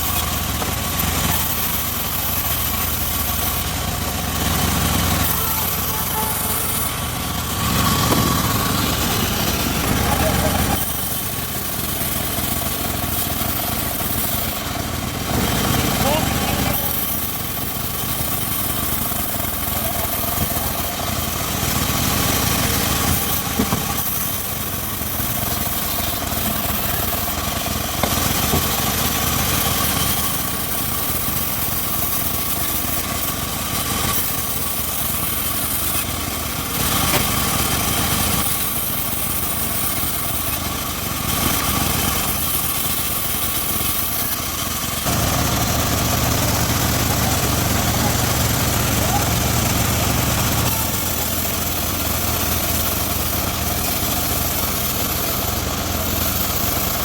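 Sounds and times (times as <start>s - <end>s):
engine-driven circular sawmill running: 0.0s - 57.0s.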